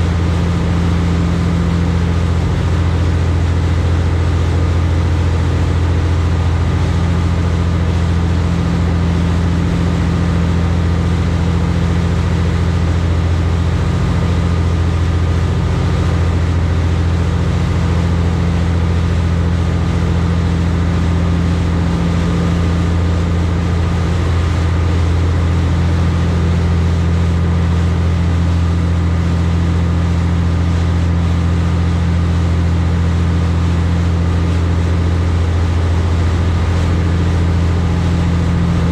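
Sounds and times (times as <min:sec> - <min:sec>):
boat engines droning: 0:00.0 - 0:38.9.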